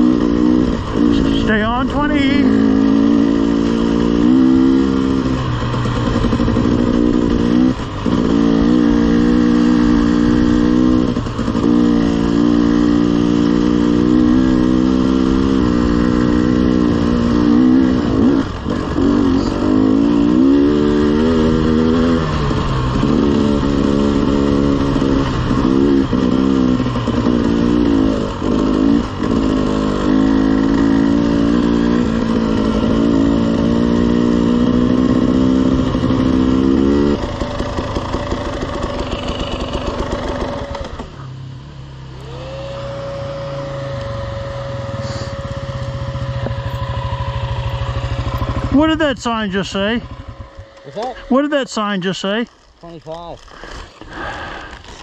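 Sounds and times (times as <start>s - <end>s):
dirt bike engine revving: 0.0s - 41.3s, 42.1s - 52.5s, 53.4s - 55.0s.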